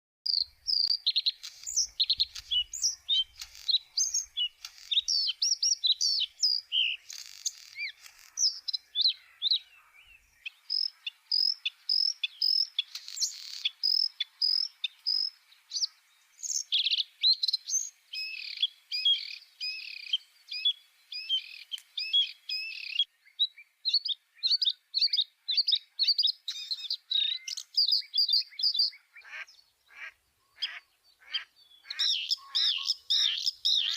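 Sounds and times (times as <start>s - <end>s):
bird chirping and trilling: 0.3s - 33.9s.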